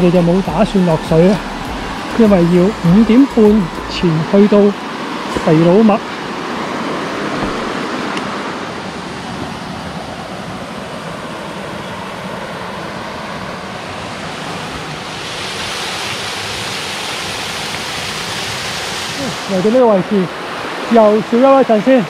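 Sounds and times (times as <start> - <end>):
mountain stream flowing: 0.0 - 22.0.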